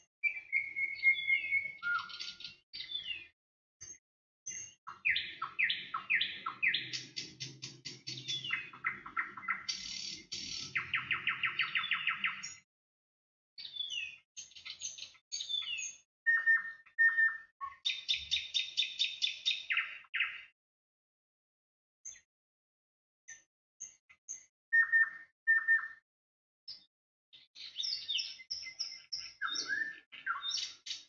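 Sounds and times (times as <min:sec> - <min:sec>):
songbird trills and chirps: 0:00.2 - 0:12.7, 0:13.6 - 0:20.5, 0:22.0 - 0:22.3, 0:23.3 - 0:26.0, 0:26.7 - 0:31.0.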